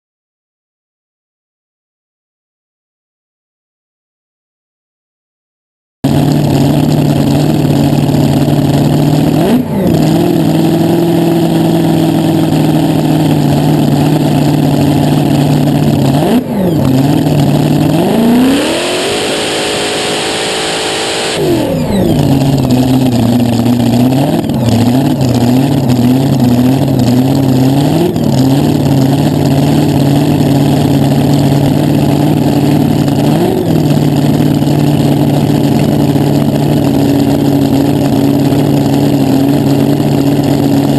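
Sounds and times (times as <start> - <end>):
dragster engine revving: 6.0 - 40.9.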